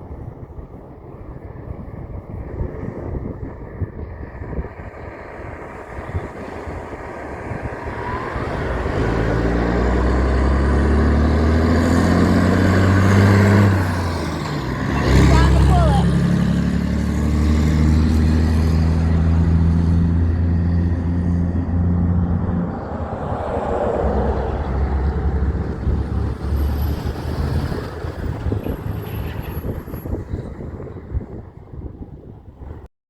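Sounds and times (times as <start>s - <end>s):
truck engine droning: 3.6s - 32.8s.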